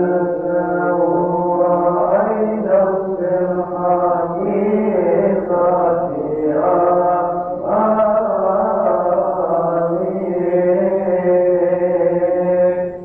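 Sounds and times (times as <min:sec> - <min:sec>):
man chanting a hymn: 0:00.0 - 0:13.0.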